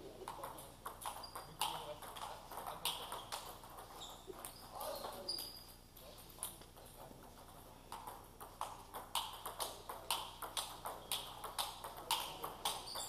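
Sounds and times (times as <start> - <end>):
table tennis ball ticking: 0.2 - 13.0.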